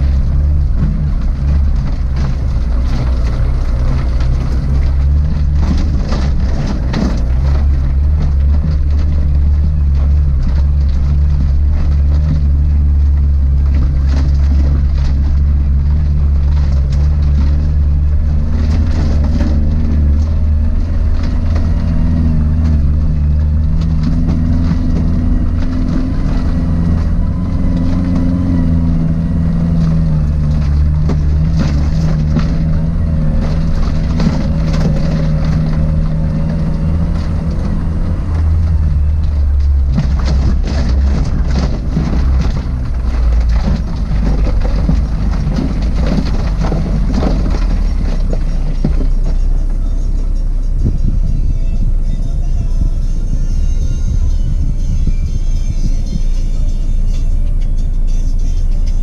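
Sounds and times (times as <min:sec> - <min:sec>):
knocks and rattles: 0:00.0 - 0:57.9
engine and drivetrain drone: 0:00.0 - 0:59.0.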